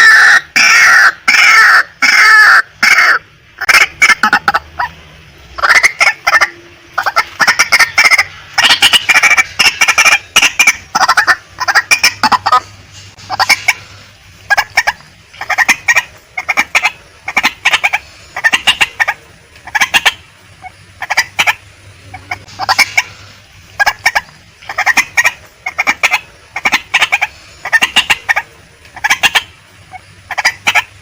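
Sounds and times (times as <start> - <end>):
waterhen clucking calls: 0.0 - 31.0.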